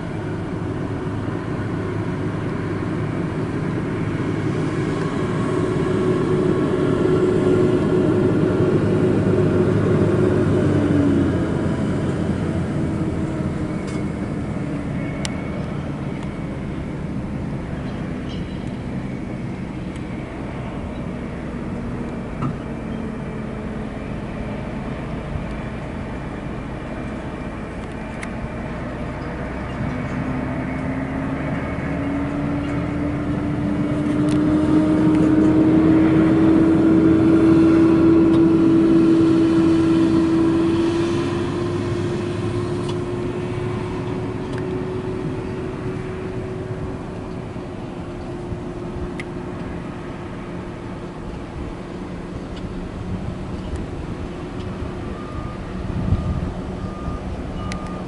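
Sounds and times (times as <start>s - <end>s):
diesel truck driving by: 0.0s - 58.0s.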